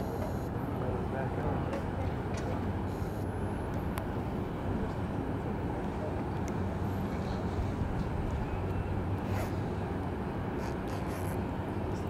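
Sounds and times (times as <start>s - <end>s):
tug engine rumbling: 0.0s - 12.0s.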